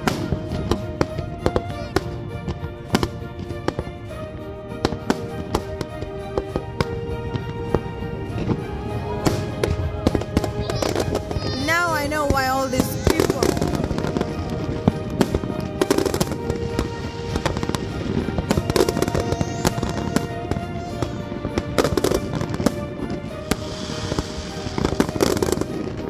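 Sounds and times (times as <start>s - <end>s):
fireworks bangs and crackles: 0.0s - 26.0s
music playing: 0.0s - 26.0s.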